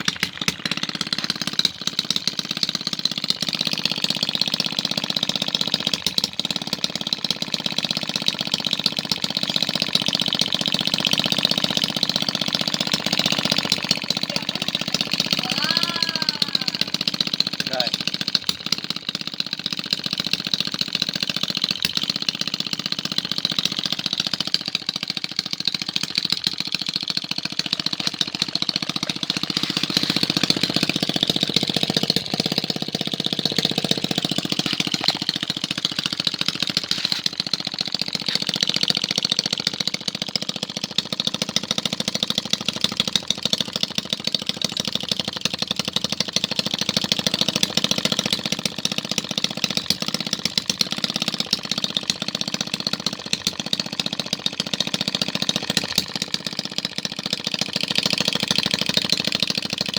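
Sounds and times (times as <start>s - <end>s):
small two-stroke engine running: 0.0s - 59.9s.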